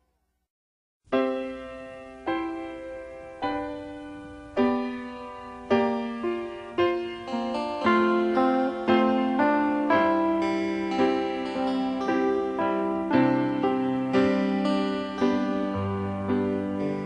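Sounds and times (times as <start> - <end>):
piano music: 1.1 - 17.0.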